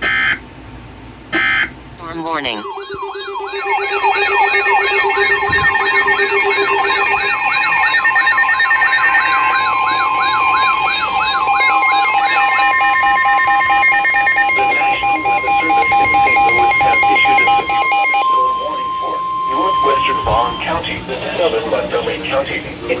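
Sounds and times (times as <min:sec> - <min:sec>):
electronic siren wail: 0:01.4 - 0:21.7
steady alert tone: 0:02.0 - 0:21.2
pulsed beeping: 0:02.0 - 0:22.3.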